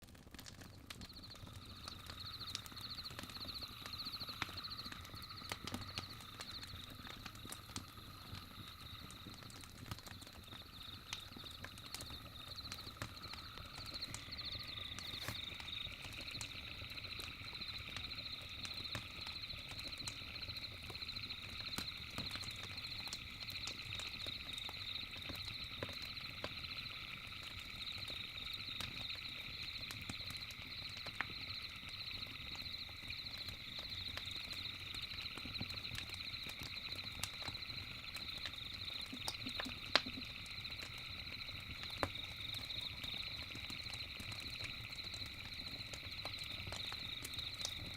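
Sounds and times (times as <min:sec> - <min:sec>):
campfire crackling: 0:00.0 - 0:47.9
insects or frogs trilling: 0:00.1 - 0:47.9.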